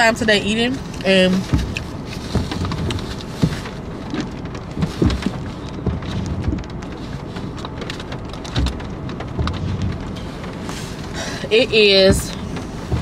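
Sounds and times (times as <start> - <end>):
rain on car roof: 0.0 - 13.0
soft low thumps: 0.0 - 13.0.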